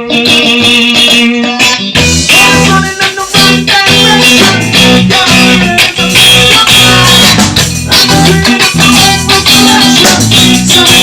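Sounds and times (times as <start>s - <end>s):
instrumental rock music: 0.0s - 11.0s.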